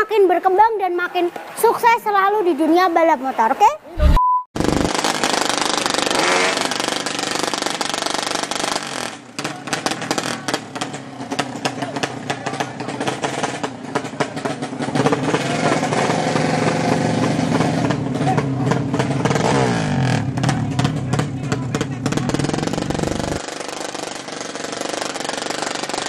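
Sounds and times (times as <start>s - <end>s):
motorcycle engine revving: 4.0s - 26.0s.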